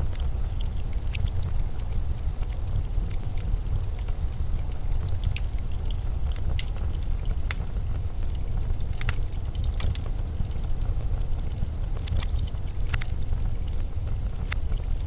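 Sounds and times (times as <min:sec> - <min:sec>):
sharp crackles and ticks: 0:00.0 - 0:15.0.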